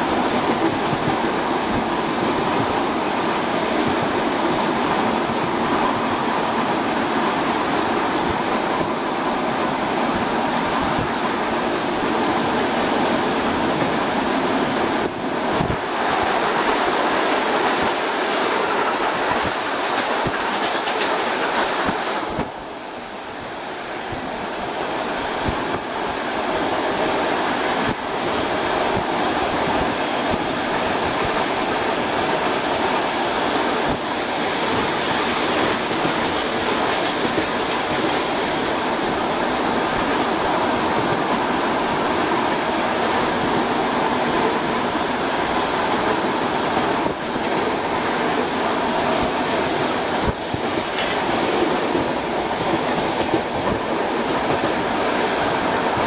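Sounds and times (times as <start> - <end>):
train wheel and air noise: 0.0 - 56.0.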